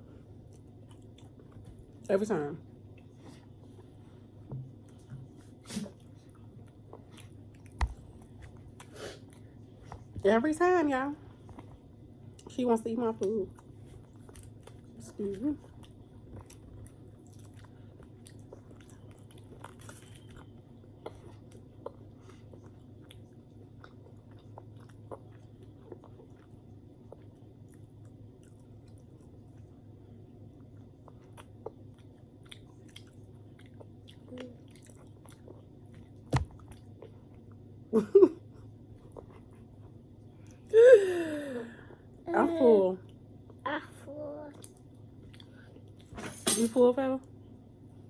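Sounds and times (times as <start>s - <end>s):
people chewing food: 0.0s - 10.2s, 11.0s - 12.6s, 13.2s - 42.2s, 44.5s - 46.1s
faint steady hum: 0.0s - 48.0s.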